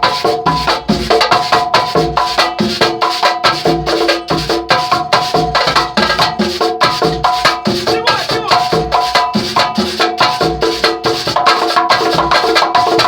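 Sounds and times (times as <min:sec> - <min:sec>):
percussion ensemble playing: 0:00.0 - 0:13.0.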